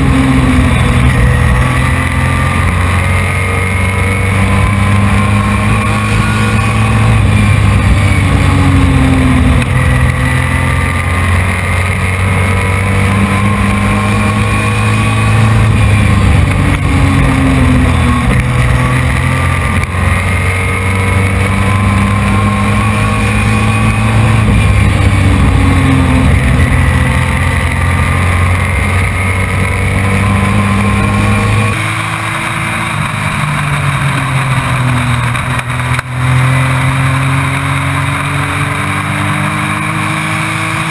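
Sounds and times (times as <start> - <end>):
race truck engine: 0.0 - 40.9.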